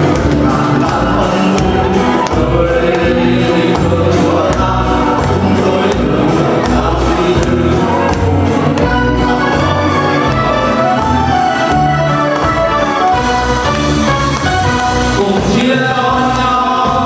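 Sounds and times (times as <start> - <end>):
upbeat song with choir voices: 0.0 - 17.0.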